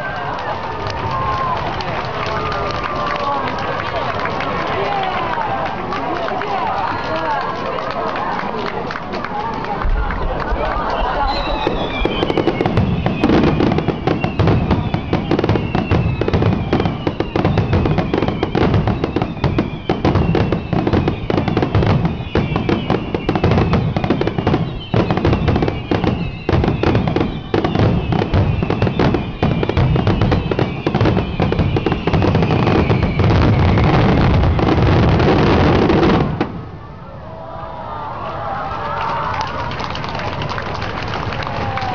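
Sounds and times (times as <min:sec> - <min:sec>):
fireworks bursts and crackle: 0:00.0 - 0:36.9, 0:39.2 - 0:41.9.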